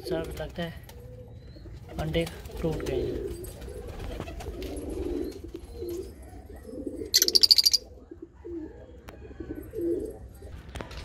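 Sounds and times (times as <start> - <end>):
pigeons cooing: 0.0 - 10.6.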